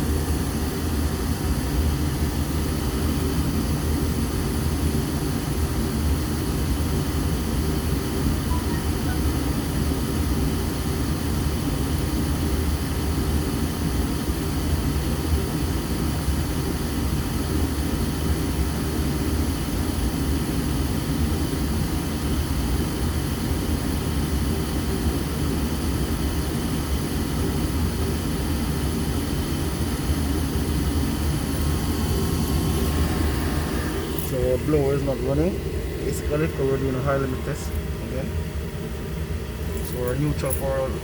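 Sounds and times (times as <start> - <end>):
gas furnace rumbling: 0.0 - 41.0.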